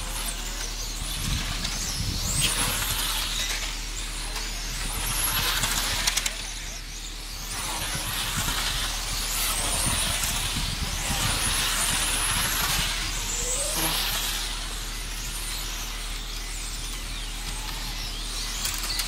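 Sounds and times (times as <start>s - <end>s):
remote control car motors whining: 0.0s - 19.0s.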